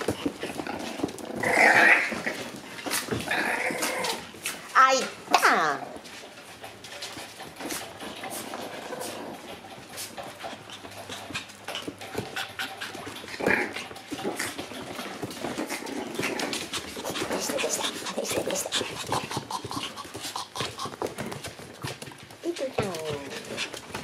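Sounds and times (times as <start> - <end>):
claws clicking on hard floor: 0.0 - 24.0
puppies scuffling: 0.0 - 24.0.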